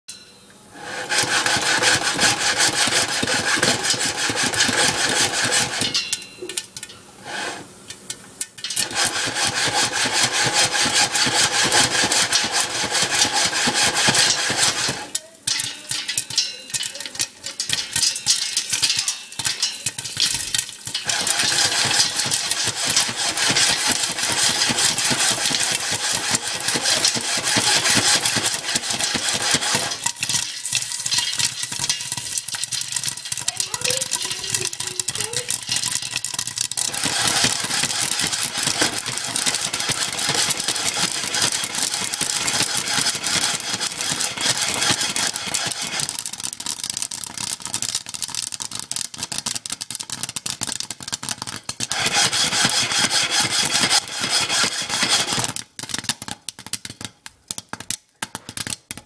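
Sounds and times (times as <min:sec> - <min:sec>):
metal pot scraping on grate: 0:00.1 - 0:49.1, 0:51.4 - 0:56.0.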